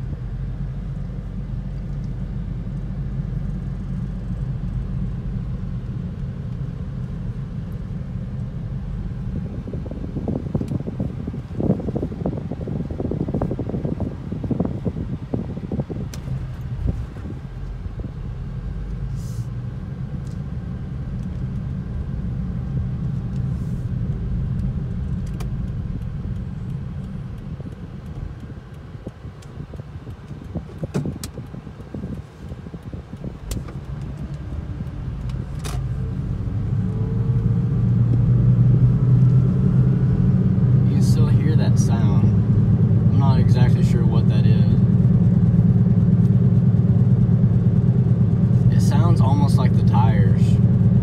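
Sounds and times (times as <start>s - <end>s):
rising whine: 0.0s - 29.5s, 32.7s - 51.0s
car cabin drone: 0.0s - 51.0s.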